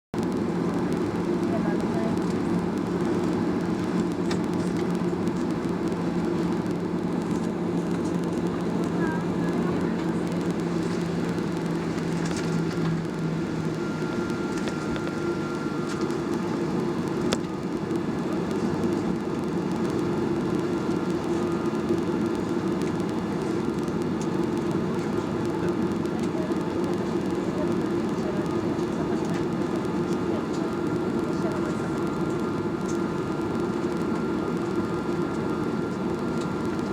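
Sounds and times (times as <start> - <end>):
airliner cabin drone: 0.2 - 36.9
jet engines humming: 0.2 - 36.9.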